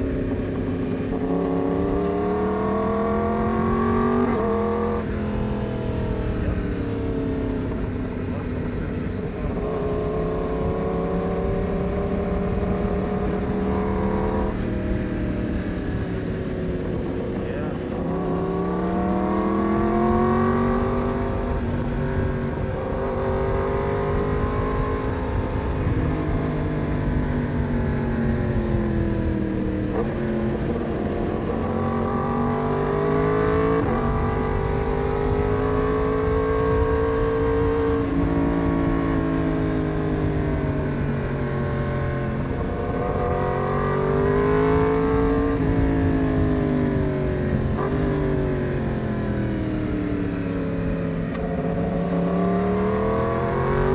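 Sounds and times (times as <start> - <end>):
motorcycle engine revving: 0.0 - 53.9
wind and road noise: 0.0 - 53.9.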